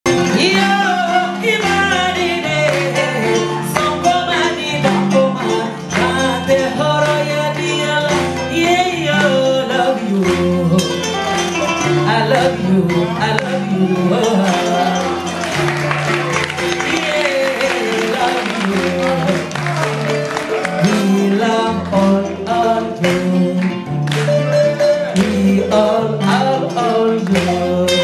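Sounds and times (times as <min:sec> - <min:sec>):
bass guitar line: 0:00.0 - 0:28.0
woman singing: 0:00.1 - 0:15.4, 0:16.7 - 0:19.9, 0:20.8 - 0:24.1, 0:25.0 - 0:28.0
plucked kora: 0:00.1 - 0:28.0.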